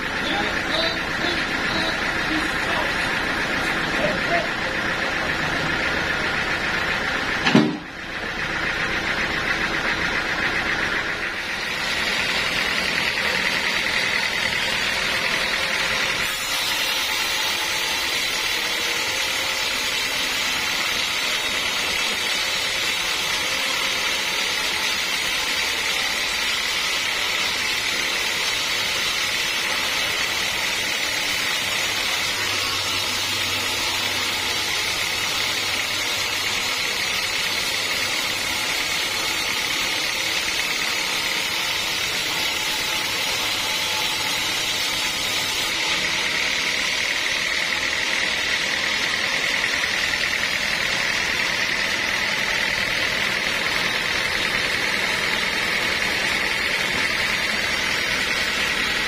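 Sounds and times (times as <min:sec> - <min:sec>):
band saw cutting a log: 0:00.0 - 0:59.0.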